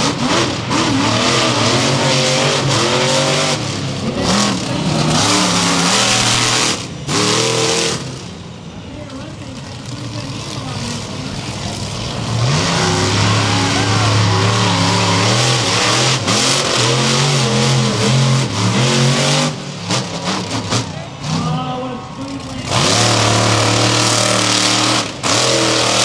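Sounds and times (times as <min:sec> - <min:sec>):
truck engine revving hard: 0:00.0 - 0:08.9, 0:09.9 - 0:21.7, 0:22.4 - 0:26.0.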